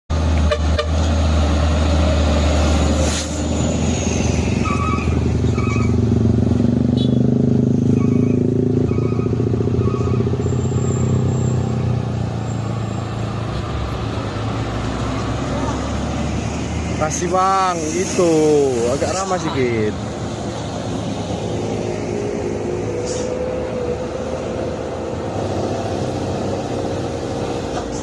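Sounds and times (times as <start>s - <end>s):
truck diesel engine labouring: 0.1s - 28.0s.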